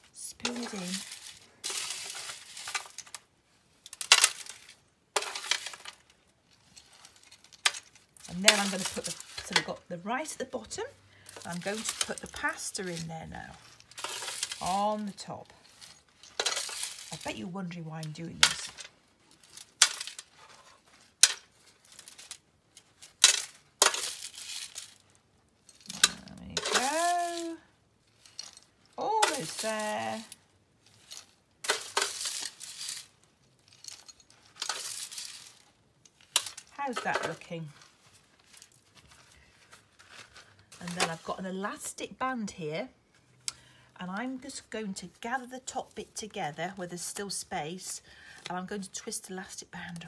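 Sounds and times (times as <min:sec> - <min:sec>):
dry pasta rattling: 0:00.0 - 0:42.0
foil crinkling: 0:00.0 - 0:42.0
plastic glove rustling: 0:00.0 - 0:43.4.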